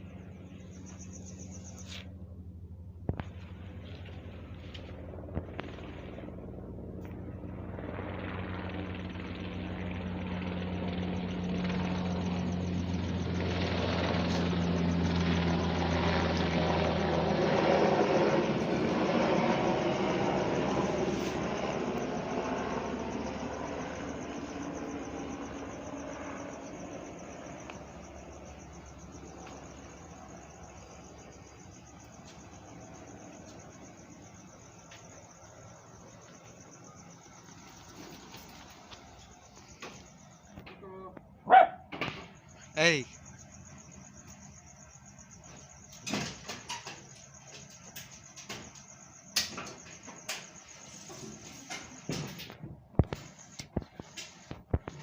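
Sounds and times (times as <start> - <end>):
low rotor hum: 0.0 - 41.6, 42.2 - 55.0
helicopter flying past: 0.0 - 55.0.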